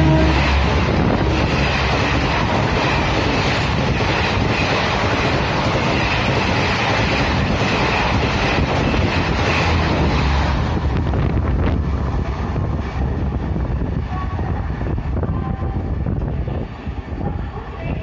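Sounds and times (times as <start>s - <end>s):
train wheels rushing on rails: 0.0s - 18.0s
wind buffeting microphone: 0.0s - 18.0s.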